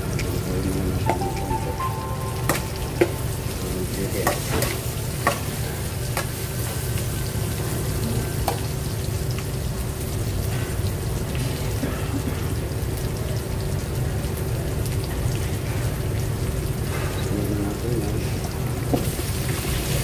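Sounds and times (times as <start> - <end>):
vegetables sizzling in a wok: 0.0 - 11.8, 12.4 - 20.0.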